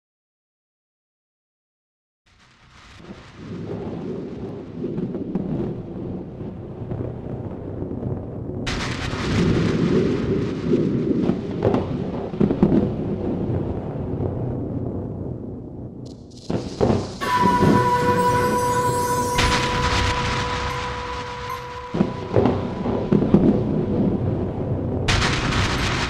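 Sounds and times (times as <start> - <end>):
low rolling thunder: 3.0 - 26.0
sharp thunder cracks: 3.0 - 26.0.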